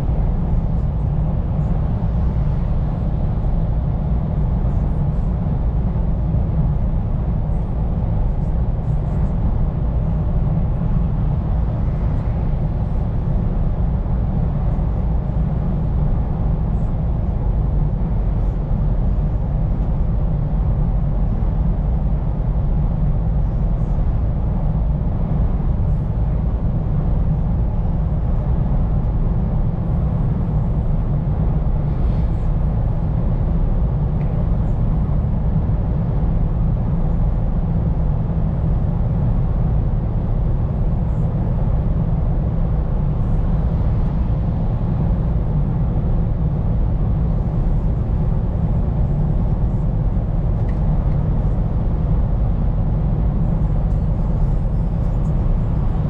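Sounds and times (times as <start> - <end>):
road rumble: 0.0 - 56.0.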